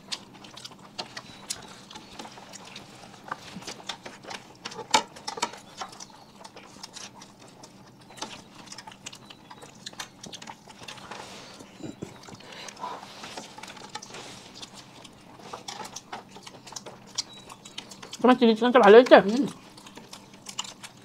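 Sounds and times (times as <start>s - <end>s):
quiet chewing: 0.0s - 21.0s.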